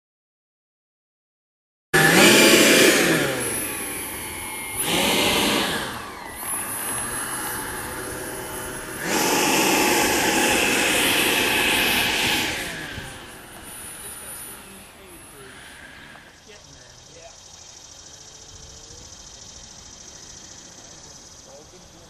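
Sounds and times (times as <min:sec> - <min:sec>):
electric ducted fan whining: 0:02.0 - 0:22.0.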